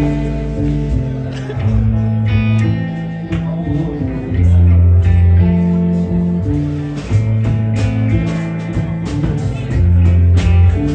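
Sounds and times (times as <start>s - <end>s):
live rock band playing: 0.0s - 10.9s.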